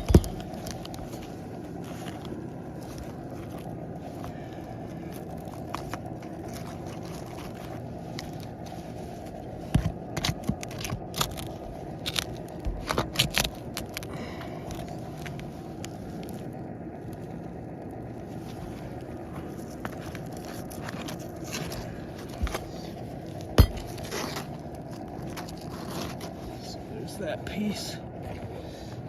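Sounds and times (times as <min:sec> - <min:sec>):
shingles scraping and crackling: 0:00.0 - 0:26.8
steady background hum: 0:00.0 - 0:29.0.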